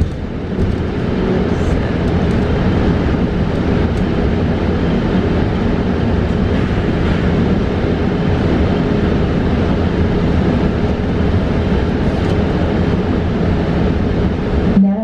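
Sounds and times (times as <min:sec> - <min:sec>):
road and tyre rumble: 0:00.0 - 0:14.8.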